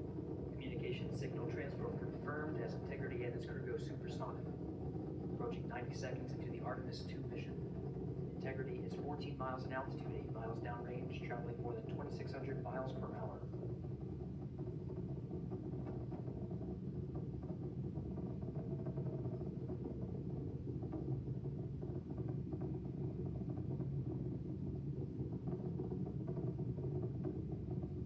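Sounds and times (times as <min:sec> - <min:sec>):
rocket engine rumble: 0:00.0 - 0:28.0.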